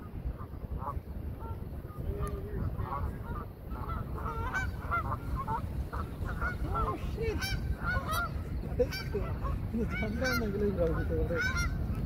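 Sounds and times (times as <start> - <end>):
geese honking: 0.3 - 12.0.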